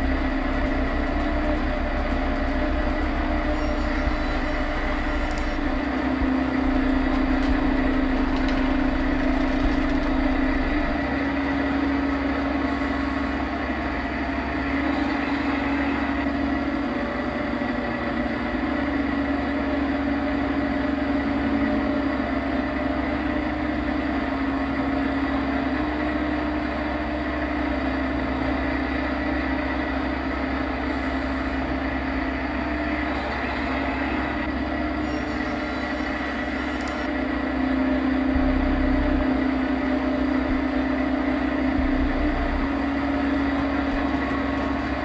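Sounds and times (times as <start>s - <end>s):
machine hum with whining tone: 0.0s - 45.0s.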